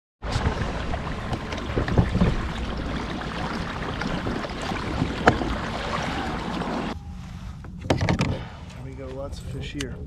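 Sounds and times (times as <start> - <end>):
wind buffeting microphone: 0.2 - 8.4
water splashing along hull: 0.2 - 9.4.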